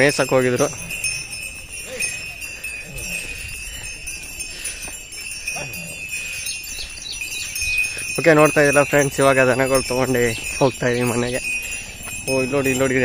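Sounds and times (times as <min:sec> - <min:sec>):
cattle bells jingling: 0:00.0 - 0:13.0.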